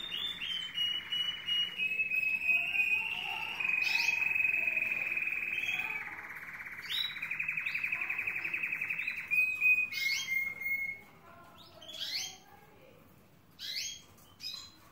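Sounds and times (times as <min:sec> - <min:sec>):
canary singing trills: 0:00.0 - 0:12.9, 0:13.5 - 0:14.9.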